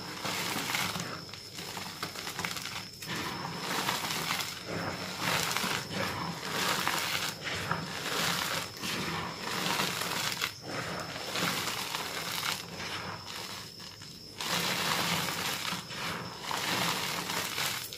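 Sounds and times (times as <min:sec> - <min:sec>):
chalk clumps crunching: 0:00.0 - 0:17.9.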